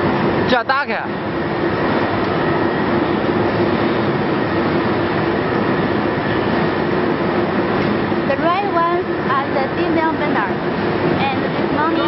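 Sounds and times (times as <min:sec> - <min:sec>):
constant hum: 0:00.0 - 0:12.0
diesel burners roaring: 0:00.0 - 0:12.0.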